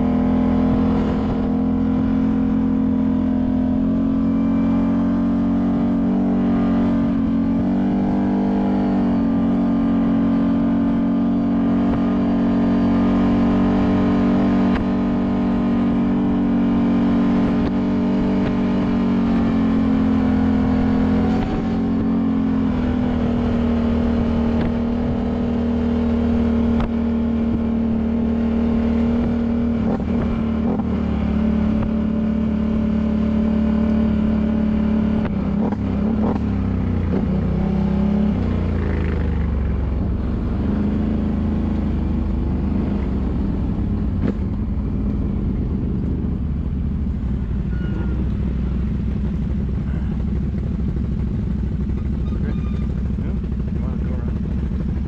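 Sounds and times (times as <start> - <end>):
utility vehicle engine droning: 0.0 - 55.0.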